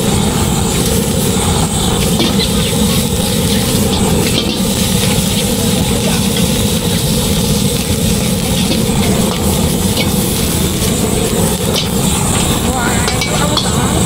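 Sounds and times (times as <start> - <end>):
gas burner rushing: 0.0 - 14.0.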